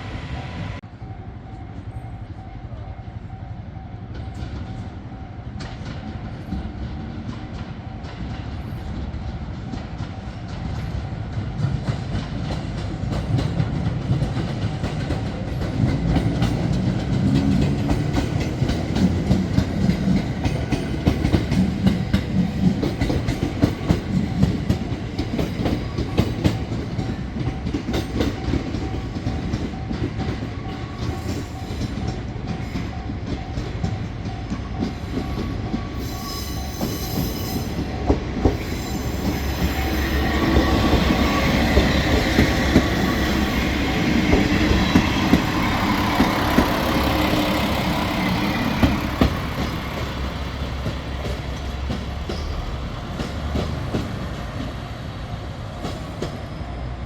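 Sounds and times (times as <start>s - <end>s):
train wheels clickety-clack: 4.0s - 56.8s
squealing train wheel: 7.9s - 54.8s.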